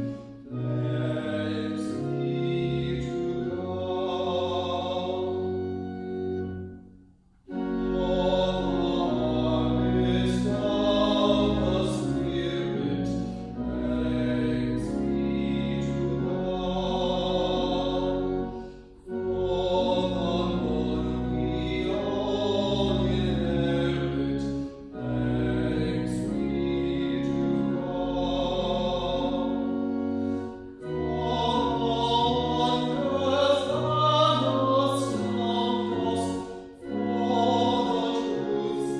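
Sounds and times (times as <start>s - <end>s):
choir singing: 0.0s - 6.6s, 7.5s - 38.9s.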